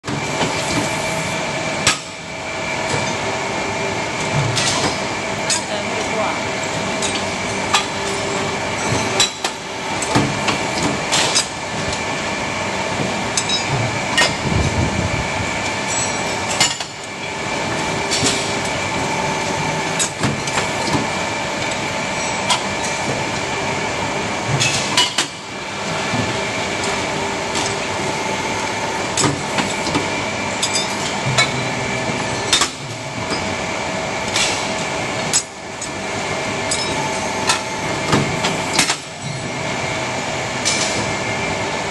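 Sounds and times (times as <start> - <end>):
machinery whine and hum: 0.0 - 41.9.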